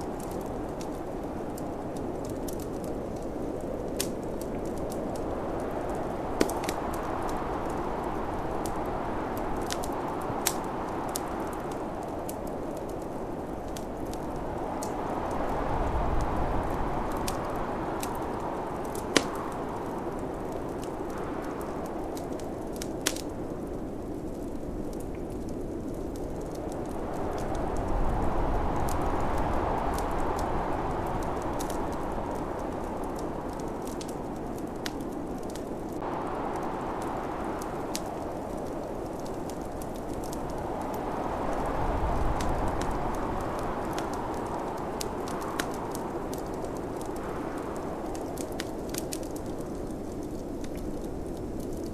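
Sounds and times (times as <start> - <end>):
snowstorm wind rushing: 0.0 - 51.9
wood fire crackling and popping: 0.0 - 51.9.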